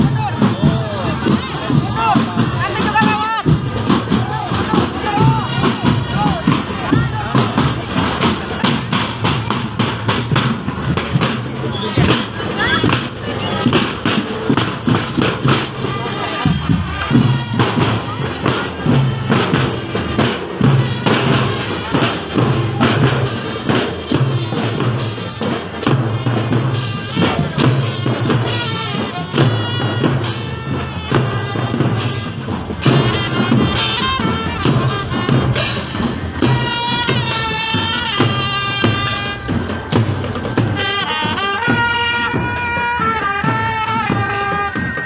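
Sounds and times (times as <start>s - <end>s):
low drum pattern: 0.0s - 44.8s
marching drums: 0.0s - 45.0s.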